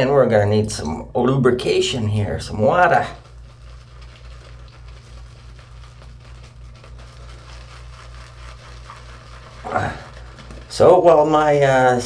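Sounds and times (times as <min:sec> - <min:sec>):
steady low hum: 0:00.0 - 0:12.0
shaving brush whipping lather: 0:01.8 - 0:12.0.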